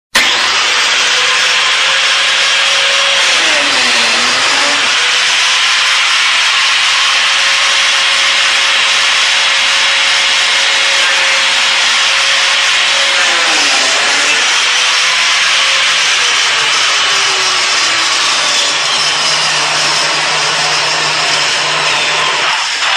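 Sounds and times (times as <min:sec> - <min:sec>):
biscuit joiner whirring: 0:00.1 - 0:22.9.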